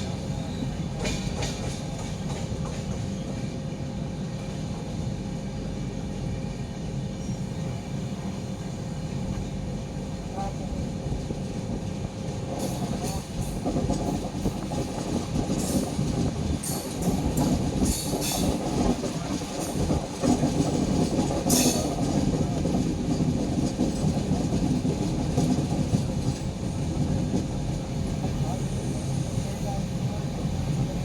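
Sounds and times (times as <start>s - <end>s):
train rumbling on rails: 0.0s - 31.0s.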